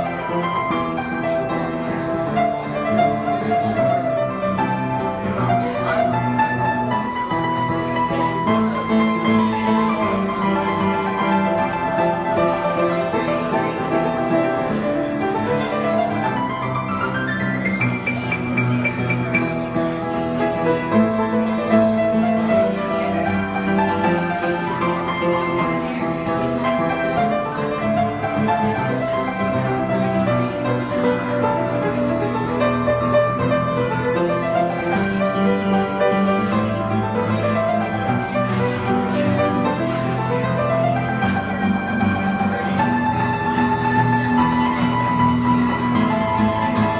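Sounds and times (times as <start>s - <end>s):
solo piano: 0.0s - 46.9s.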